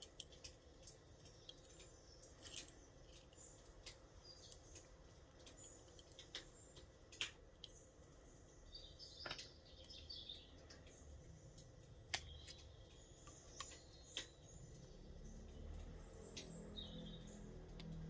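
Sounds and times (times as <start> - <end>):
faint birdsong: 0.0 - 18.0.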